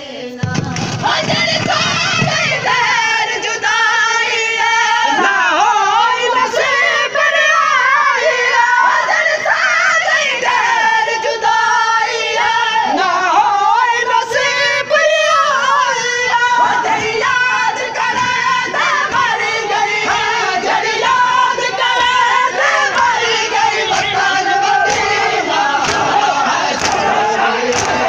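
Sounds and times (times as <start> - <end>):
crowd of men singing a lament: 0.0 - 28.0.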